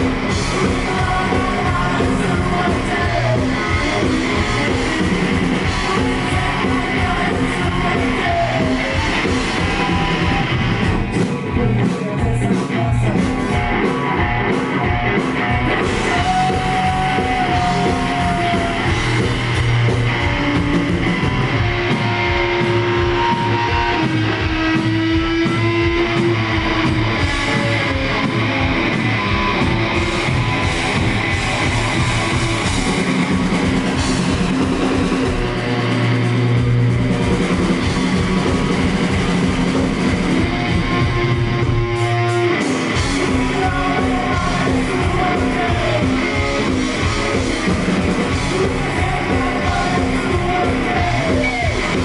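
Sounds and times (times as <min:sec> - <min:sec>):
driving drums: 0:00.0 - 0:52.0
electric guitar: 0:00.0 - 0:52.0.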